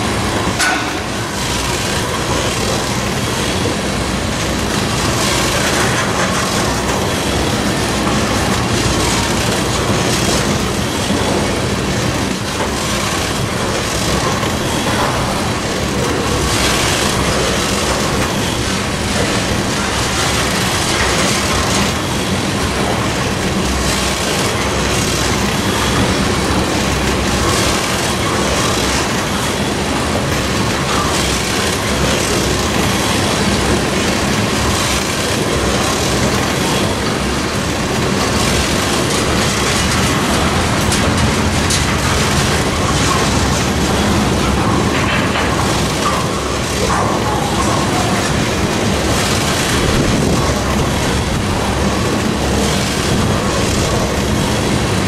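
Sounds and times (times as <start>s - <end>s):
train wheels running on track: 0.0s - 55.0s.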